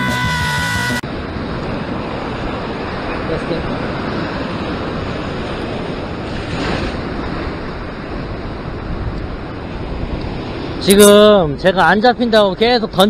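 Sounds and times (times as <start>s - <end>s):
surf washing over rocks: 1.0s - 13.0s
wind buffeting microphone: 1.0s - 13.0s.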